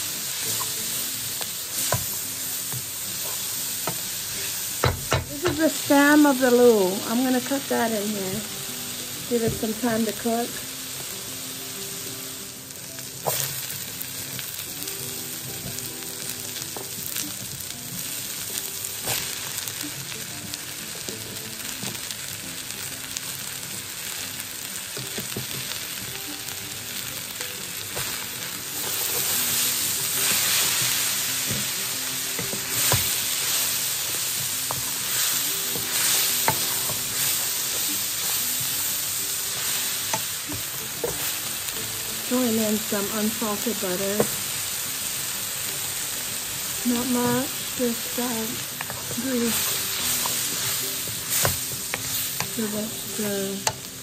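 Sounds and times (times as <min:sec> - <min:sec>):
vegetables sizzling in a wok: 0:00.0 - 0:54.0.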